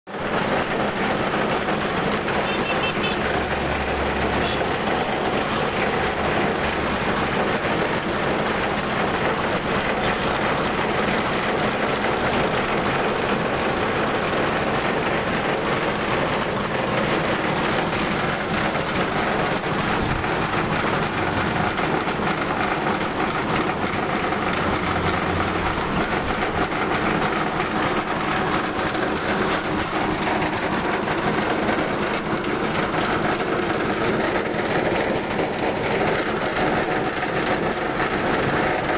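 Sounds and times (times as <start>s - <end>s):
machine mechanical drone: 0.2s - 38.9s
grain pouring hiss and rattle: 3.5s - 38.9s.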